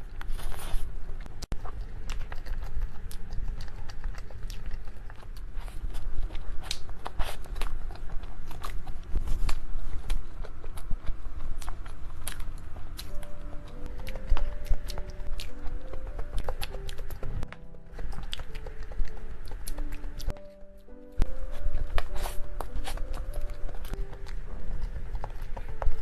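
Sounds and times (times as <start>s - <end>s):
biting and chewing: 0.0s - 26.0s.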